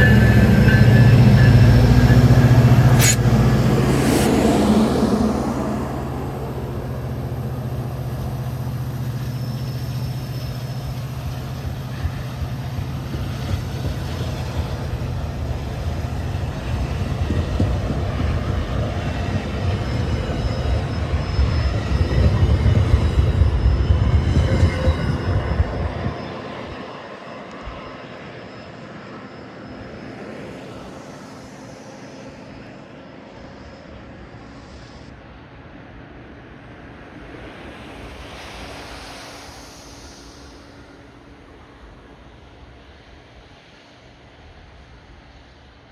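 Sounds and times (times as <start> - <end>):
wind hiss: 0.0 - 29.2, 30.1 - 45.9
train rumbling along tracks: 0.0 - 45.9.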